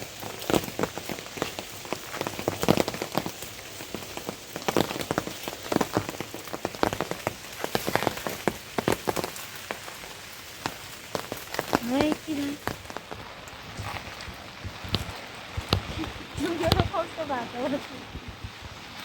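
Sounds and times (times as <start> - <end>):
rain drops falling: 0.0 - 19.0.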